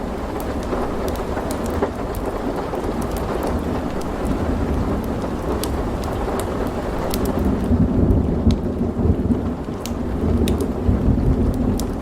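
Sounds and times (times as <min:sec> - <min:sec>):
log fire crackling: 0:00.0 - 0:12.0
rumble of thunder: 0:00.0 - 0:12.0
steady rain: 0:00.0 - 0:12.0.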